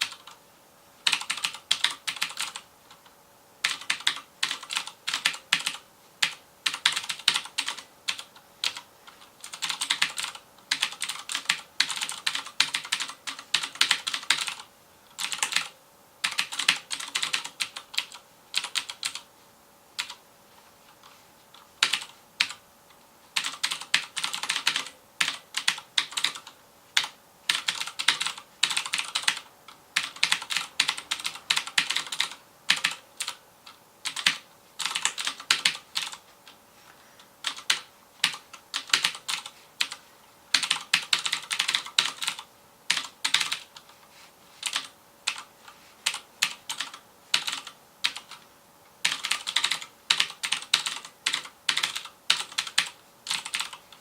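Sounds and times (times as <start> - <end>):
clicky mechanical keyboard typing: 0.0 - 0.4, 1.0 - 19.3, 20.0 - 20.2, 21.0 - 22.6, 23.4 - 36.6, 37.4 - 43.9, 44.6 - 48.4, 49.0 - 54.0.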